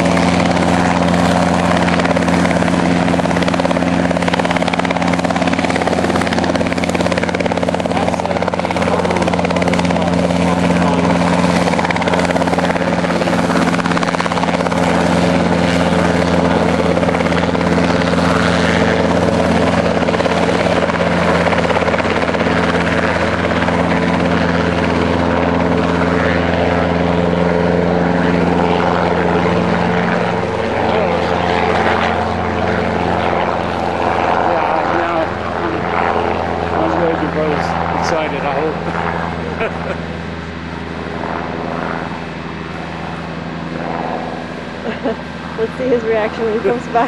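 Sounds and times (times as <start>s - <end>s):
helicopter running: 0.0s - 47.0s.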